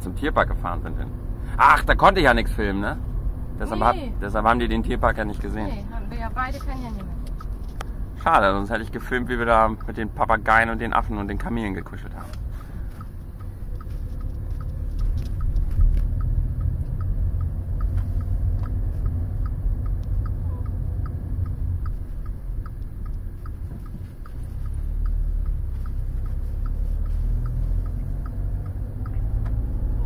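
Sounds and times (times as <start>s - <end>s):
car engine and tyre rumble: 0.0s - 30.0s
light regular ticking: 4.2s - 30.0s.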